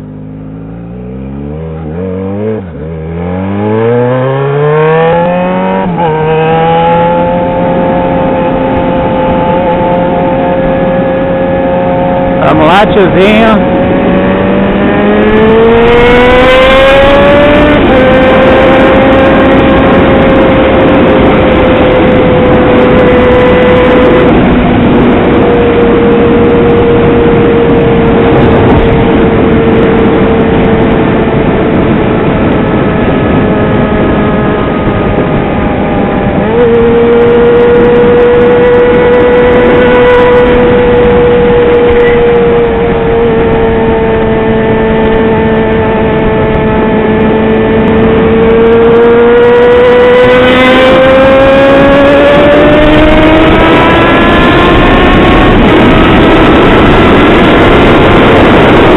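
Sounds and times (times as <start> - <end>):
motorcycle engine revving: 0.0 - 58.9
wind noise on microphone: 0.0 - 58.9.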